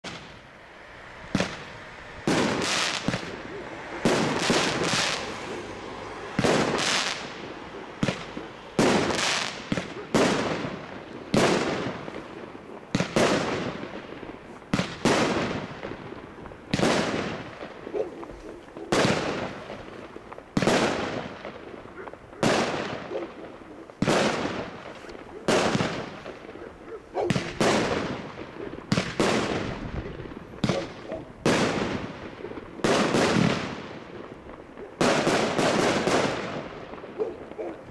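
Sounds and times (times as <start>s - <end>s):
firework battery bangs: 1.2s - 23.1s, 27.3s - 37.1s.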